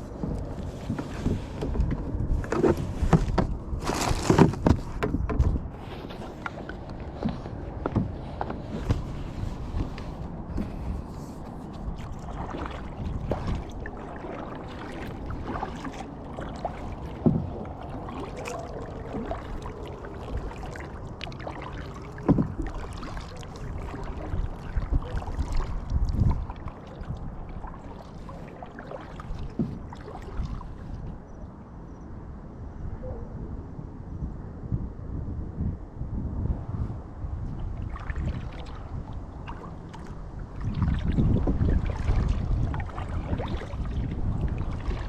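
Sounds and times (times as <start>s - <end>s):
paddle strokes in water: 0.0s - 31.2s, 37.4s - 45.0s.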